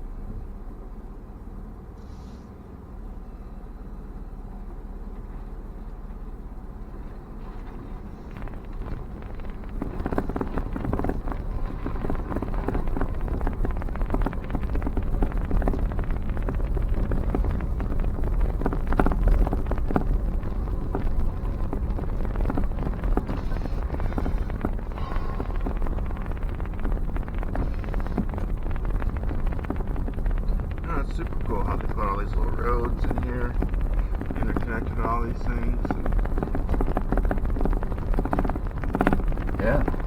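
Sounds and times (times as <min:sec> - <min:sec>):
car rumbling slowly: 0:00.0 - 0:40.0
irregular crackling: 0:06.4 - 0:40.0.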